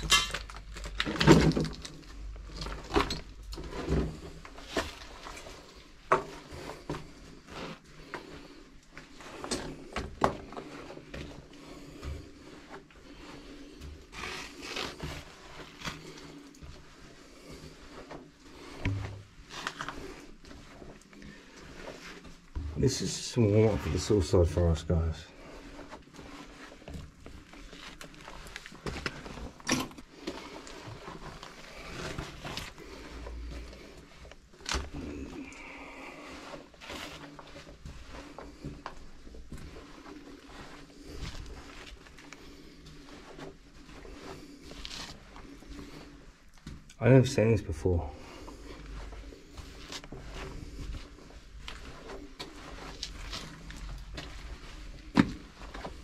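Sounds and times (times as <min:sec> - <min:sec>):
rustling scrapes: 0:00.0 - 0:46.9, 0:47.8 - 0:56.0.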